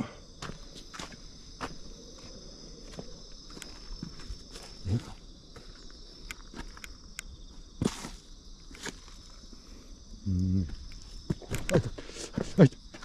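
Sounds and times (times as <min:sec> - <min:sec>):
insects chirring: 0:00.0 - 0:13.0
footsteps on outdoor path: 0:00.3 - 0:09.5, 0:10.7 - 0:13.0.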